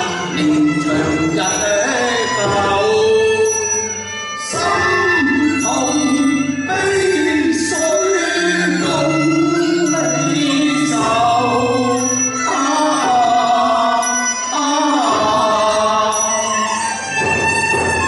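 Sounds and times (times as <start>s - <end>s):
opera singing: 0.0s - 17.0s
traditional instrumental accompaniment: 0.0s - 18.0s.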